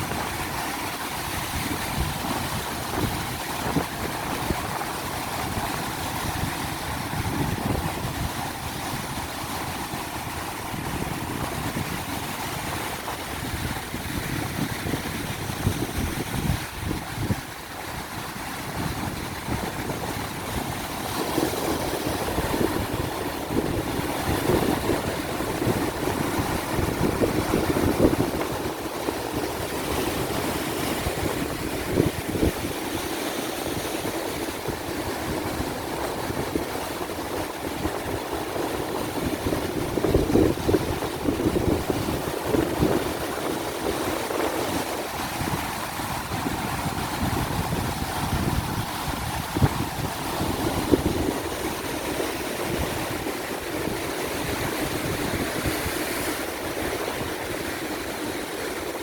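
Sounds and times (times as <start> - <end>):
ocean surf breaking on beach: 0.0 - 59.0
wind buffeting microphone: 0.0 - 59.0.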